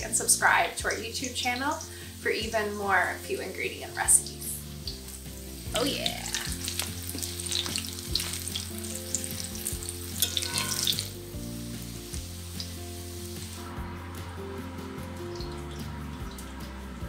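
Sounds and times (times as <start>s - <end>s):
oil sizzling and crackling: 0.0s - 17.0s.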